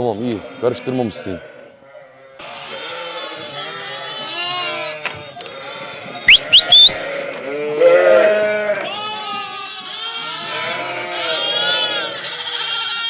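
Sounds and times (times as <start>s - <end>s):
sheep bleating: 0.2s - 13.0s.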